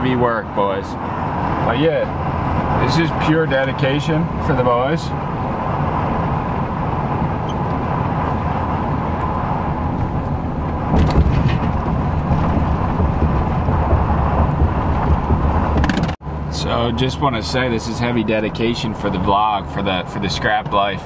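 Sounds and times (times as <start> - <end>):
truck road and engine noise: 0.0 - 21.0.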